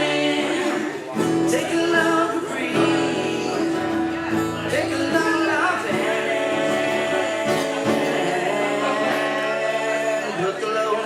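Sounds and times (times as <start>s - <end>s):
guitar band music: 0.0s - 11.0s
person singing: 0.0s - 11.0s.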